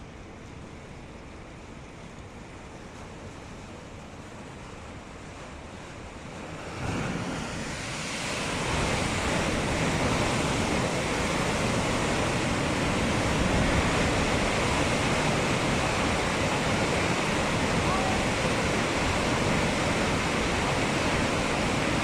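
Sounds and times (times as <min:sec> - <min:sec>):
rushing water torrent: 0:00.0 - 0:22.0.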